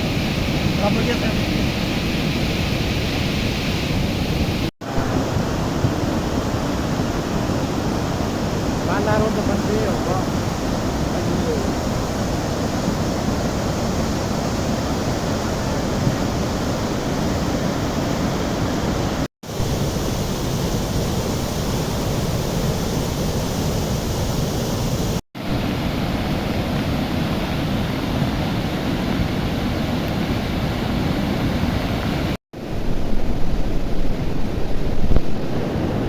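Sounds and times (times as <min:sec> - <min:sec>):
river rushing: 0:00.0 - 0:36.0.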